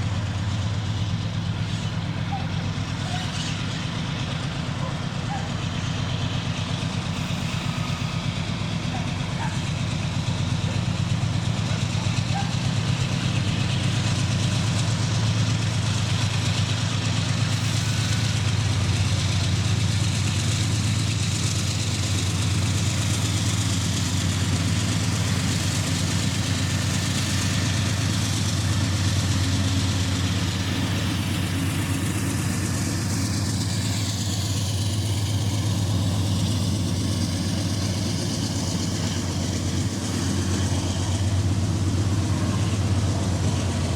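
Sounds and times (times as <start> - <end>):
diesel locomotive engine throbbing: 0.0 - 43.9.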